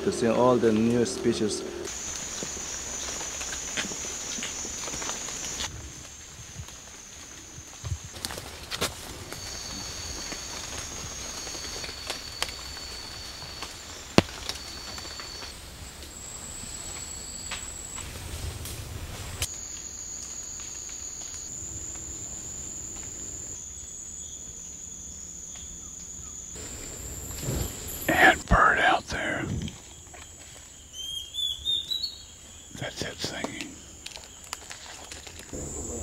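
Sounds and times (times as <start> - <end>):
insects calling: 0.0 - 36.0.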